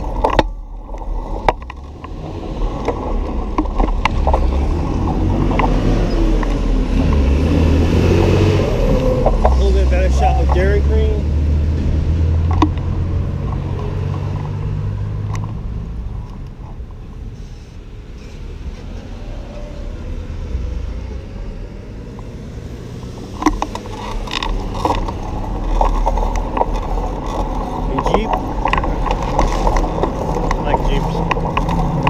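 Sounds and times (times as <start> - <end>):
cars passing rumble: 0.0 - 32.0.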